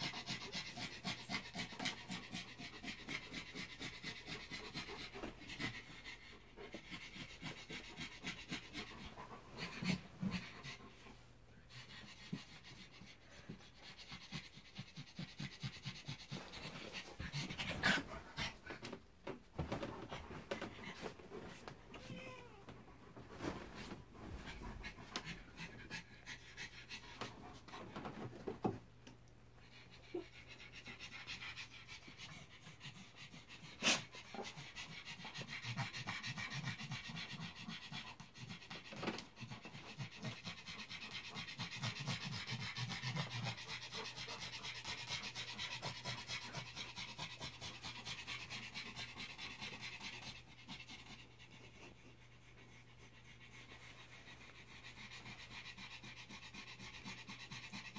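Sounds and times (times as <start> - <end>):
dog panting: 0.0 - 21.8, 22.7 - 57.9.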